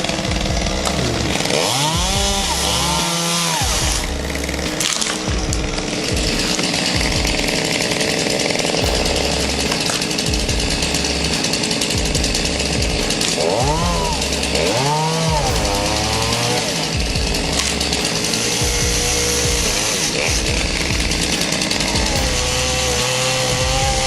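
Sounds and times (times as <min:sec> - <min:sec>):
background music: 0:00.0 - 0:24.0
chainsaw engine revving: 0:00.0 - 0:24.0.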